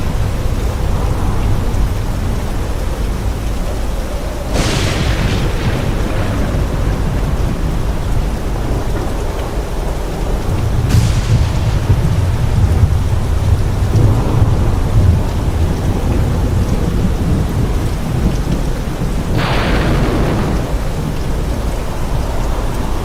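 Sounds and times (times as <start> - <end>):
heavy rain: 0.0 - 23.0
thunder rumbling: 0.0 - 23.0
sharp thunderclap: 4.4 - 23.0.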